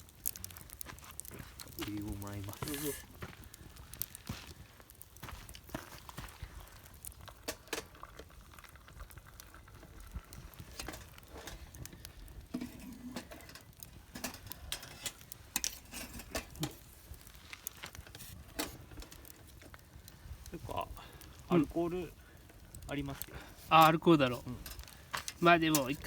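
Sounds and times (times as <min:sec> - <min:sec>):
campfire crackles and pops: 0:00.0 - 0:26.0.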